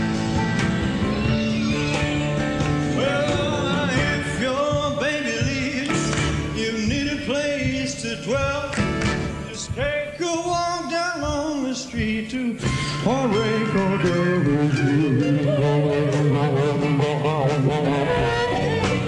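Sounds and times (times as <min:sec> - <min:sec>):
live rock band playing: 0:00.0 - 0:09.8, 0:12.6 - 0:19.0
person singing: 0:01.1 - 0:19.0.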